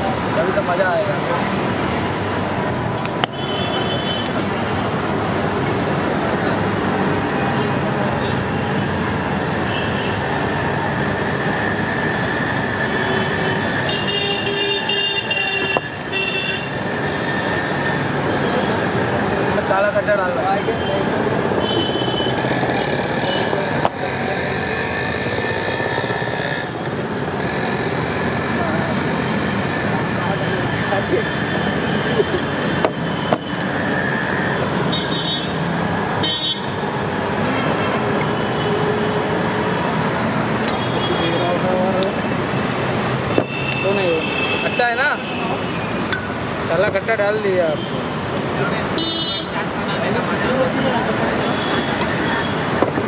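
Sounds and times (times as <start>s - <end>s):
street traffic noise: 0.0s - 53.0s.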